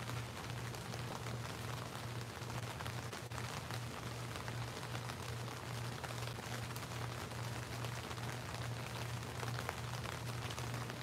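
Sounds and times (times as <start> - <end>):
steady rain pattering: 0.0 - 11.0.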